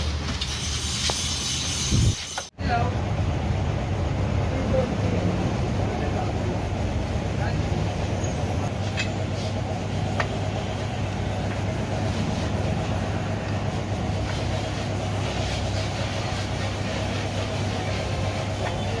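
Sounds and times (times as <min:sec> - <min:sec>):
low mechanical drone: 0:01.6 - 0:19.0.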